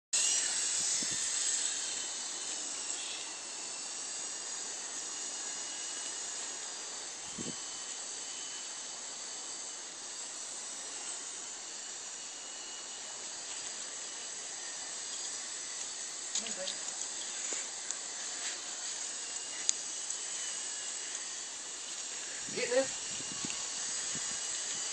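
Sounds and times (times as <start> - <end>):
high hiss: 0.2 - 24.9
toy helicopter motor whine: 0.2 - 24.9.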